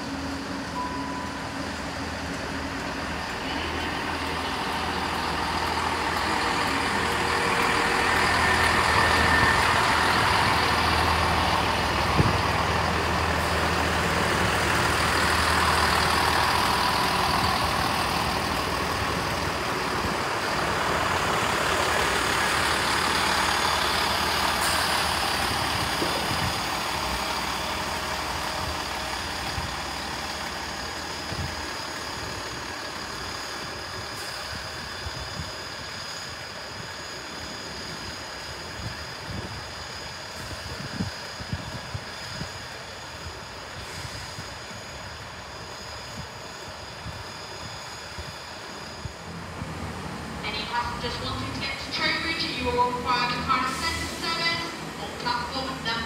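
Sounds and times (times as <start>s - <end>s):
diesel train engines passing: 0.0s - 56.0s
train wheels rolling on rails: 0.0s - 56.0s.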